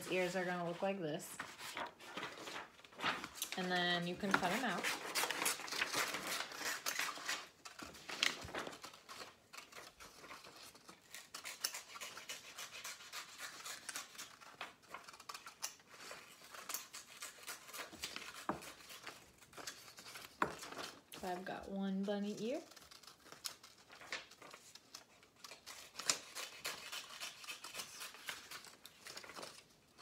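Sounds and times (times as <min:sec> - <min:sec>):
paper rustling: 0:00.0 - 0:30.0
scissors snipping paper: 0:03.2 - 0:30.0.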